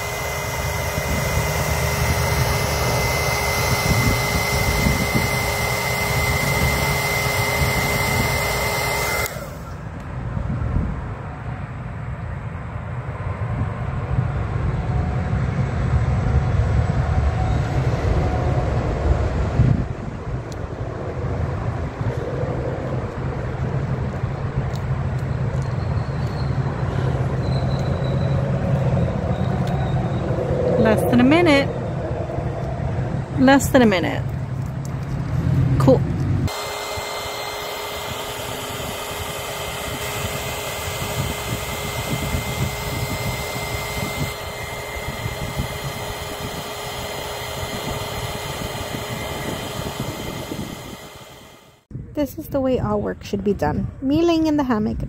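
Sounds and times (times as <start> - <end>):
heat gun fan with high whine: 0.0 - 12.0, 13.4 - 52.6.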